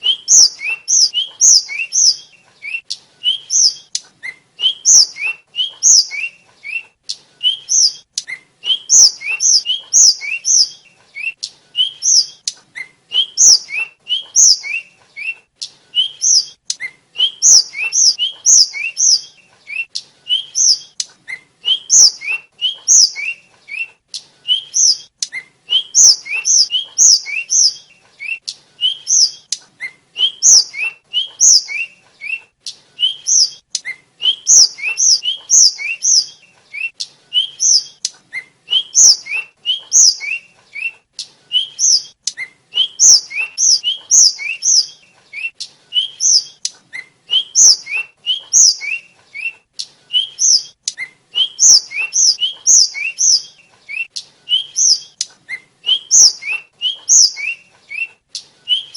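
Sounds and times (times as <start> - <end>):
bird whistled song: 0.0 - 58.9.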